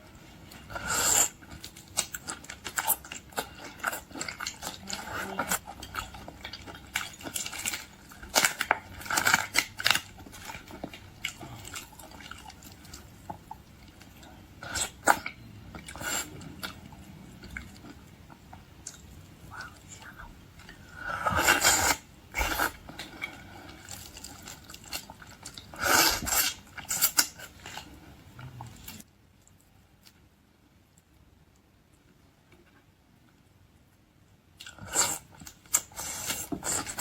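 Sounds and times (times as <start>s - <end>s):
crunching and chewing seafood: 0.3s - 33.4s, 34.6s - 37.0s.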